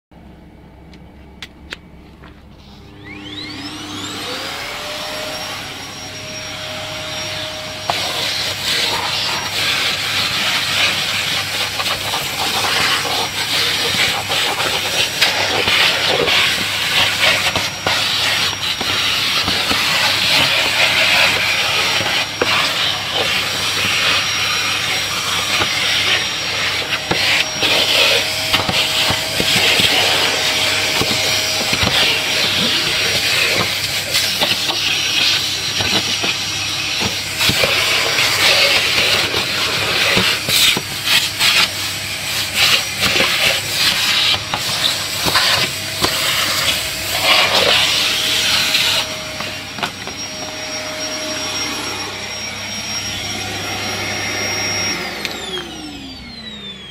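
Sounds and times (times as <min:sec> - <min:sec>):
vacuum cleaner running: 0:00.2 - 0:56.9.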